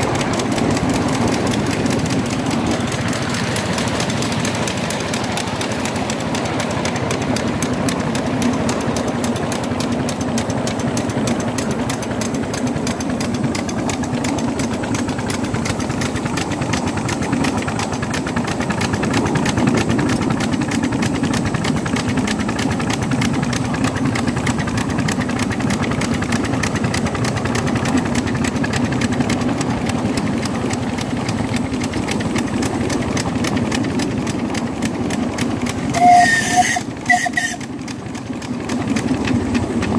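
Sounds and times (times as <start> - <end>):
miniature steam locomotive running: 0.0 - 39.9.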